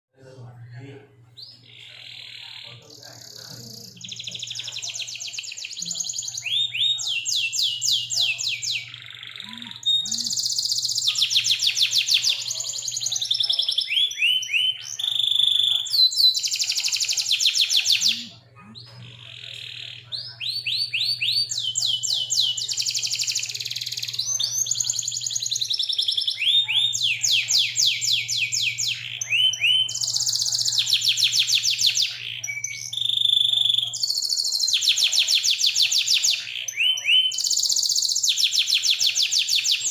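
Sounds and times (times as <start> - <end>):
canary singing trills: 0.2 - 39.9.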